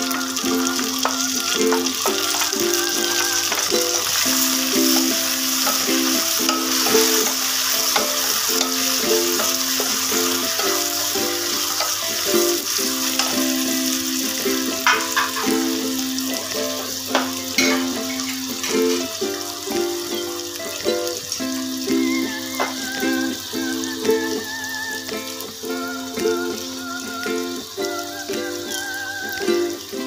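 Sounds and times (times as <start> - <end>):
background music: 0.0 - 30.0
vegetables sizzling in oil: 0.0 - 30.0.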